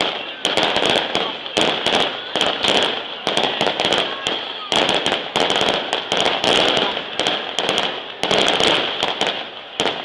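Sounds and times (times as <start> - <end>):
firecrackers cracking: 0.0 - 10.0.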